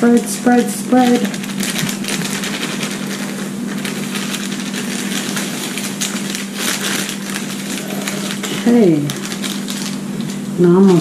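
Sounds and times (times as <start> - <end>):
plastic bag crinkling: 0.0 - 11.0
steady low hum: 0.0 - 11.0.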